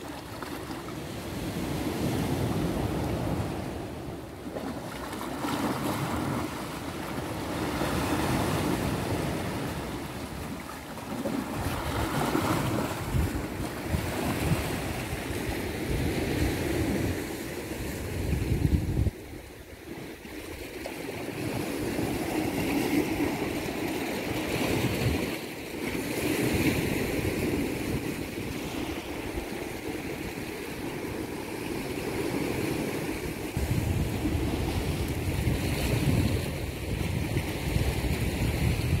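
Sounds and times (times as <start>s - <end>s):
wind rumbling on microphone: 0.0s - 20.7s, 21.3s - 39.0s
sea waves on rocky shore: 0.0s - 39.0s.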